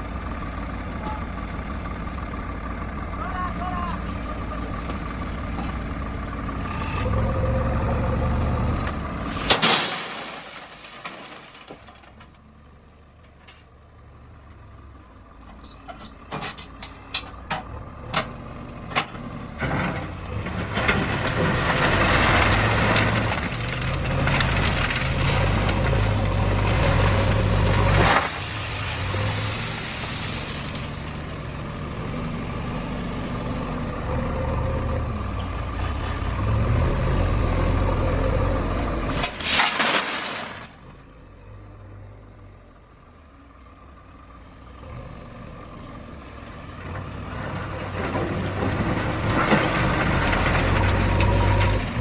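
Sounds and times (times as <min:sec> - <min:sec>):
diesel machinery engines revving: 0:00.0 - 0:52.0.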